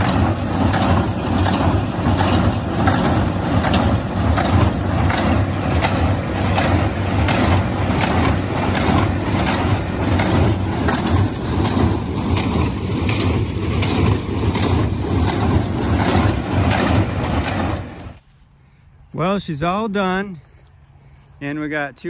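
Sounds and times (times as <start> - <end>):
hay baler plunger thumping: 0.0 - 18.2
tractor engine running: 0.0 - 18.4.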